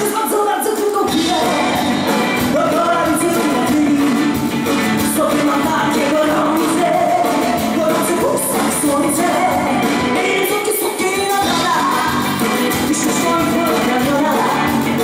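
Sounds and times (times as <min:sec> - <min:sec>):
electric and acoustic guitars: 0:00.0 - 0:15.0
woman singing lead: 0:00.0 - 0:15.0.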